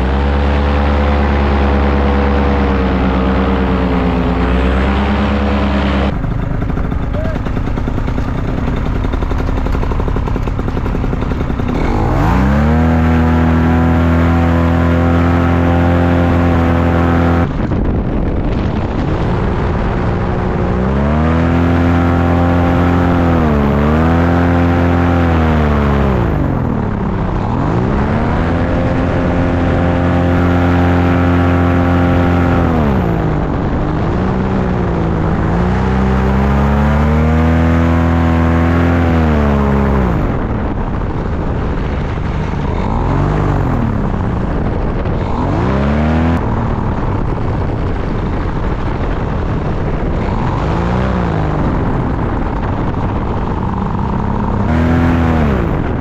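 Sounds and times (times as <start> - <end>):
paramotor engine and propeller: 0.0 - 56.0
wind rushing: 8.8 - 56.0.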